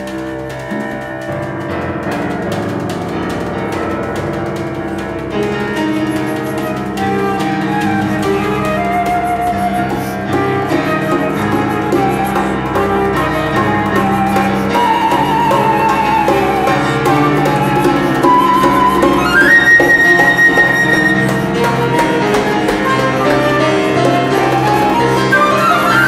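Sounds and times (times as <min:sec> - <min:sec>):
flute melody: 0:00.0 - 0:26.0
grand piano: 0:00.0 - 0:26.0.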